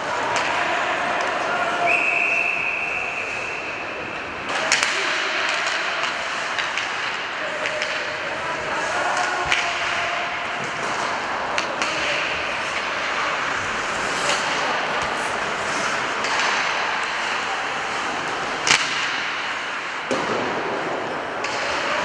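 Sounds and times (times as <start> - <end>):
hockey stick clacking puck: 0.0 - 1.6, 3.5 - 22.0
skates scraping on ice: 2.9 - 22.0.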